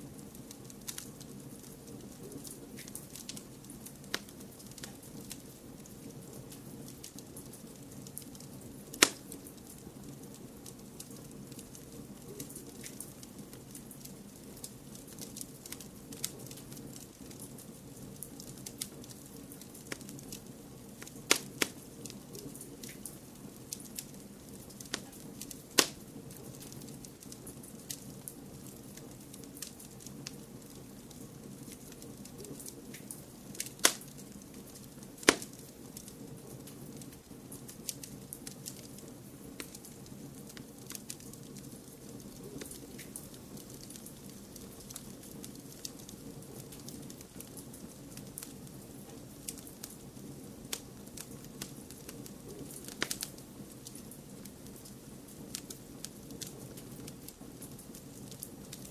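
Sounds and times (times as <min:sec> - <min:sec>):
fire crackling: 0:00.0 - 0:58.9
sharp pops of fire: 0:00.2 - 0:39.0, 0:39.6 - 0:58.9.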